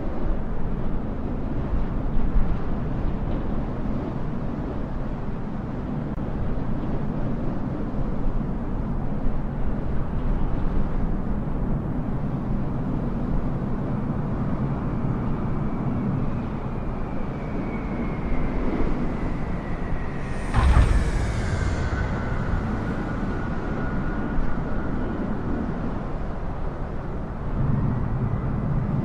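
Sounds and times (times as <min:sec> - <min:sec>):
jet rumble and turbine whine: 0:00.0 - 0:29.0.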